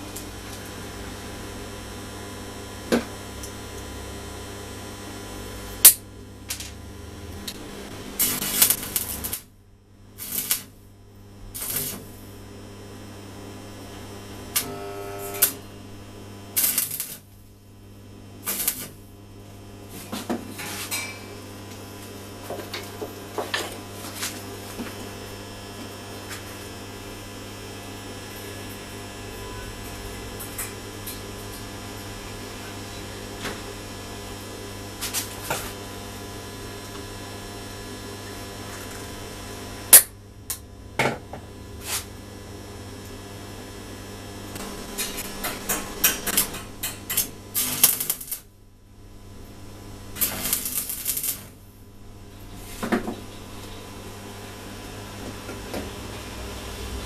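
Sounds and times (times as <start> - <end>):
crackling arc welding: 0.0 - 57.0
electrical hum: 0.0 - 57.0.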